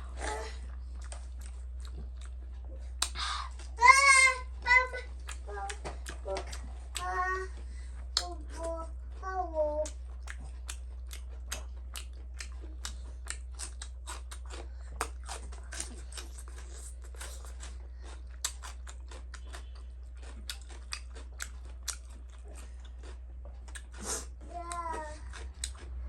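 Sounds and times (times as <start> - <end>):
low hum: 0.0 - 21.4
person chewing food: 0.0 - 26.0.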